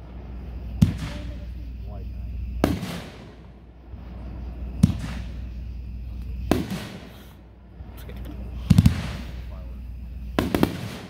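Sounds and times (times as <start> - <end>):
firework booms with echo: 0.0 - 9.6, 10.2 - 11.0.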